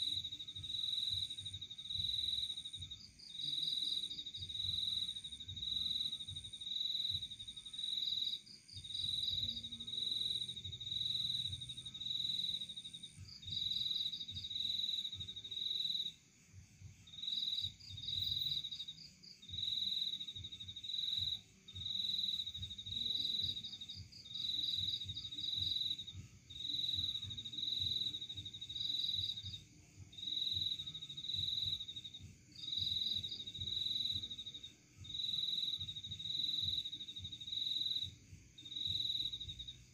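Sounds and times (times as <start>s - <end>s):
higher insect trill: 0.0s - 39.9s
insects chirping: 0.0s - 39.9s.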